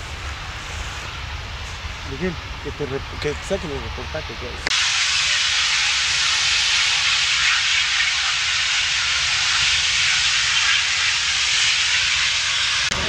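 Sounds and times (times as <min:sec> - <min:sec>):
large fire hissing and rumbling: 0:00.0 - 0:13.0.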